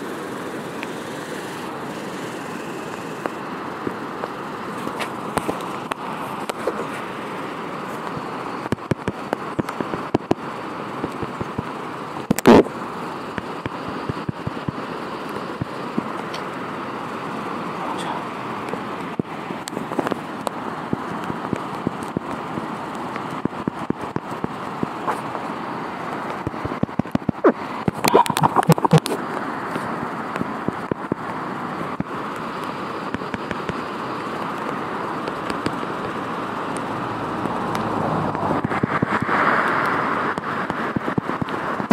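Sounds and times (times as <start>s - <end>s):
river rushing: 0.0s - 41.9s.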